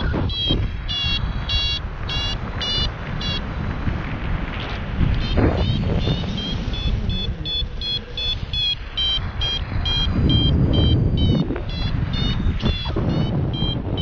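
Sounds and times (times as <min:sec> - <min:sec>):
variometer short high beeps: 0:00.0 - 0:03.4, 0:05.2 - 0:14.0
wind rumbling on microphone: 0:00.0 - 0:14.0.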